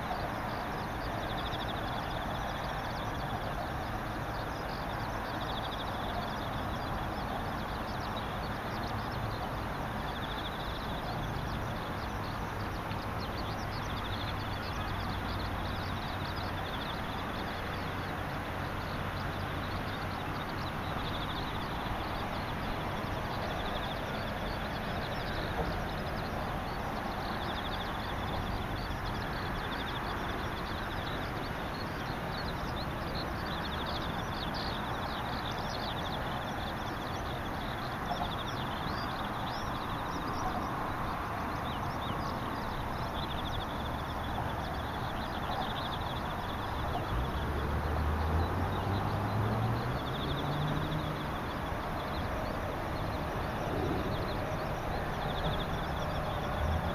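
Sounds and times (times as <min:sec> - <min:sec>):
birds chirping: 0:00.0 - 0:56.9
insects trilling in pulsed bursts: 0:00.0 - 0:56.9
steady outdoor hiss: 0:00.0 - 0:56.9.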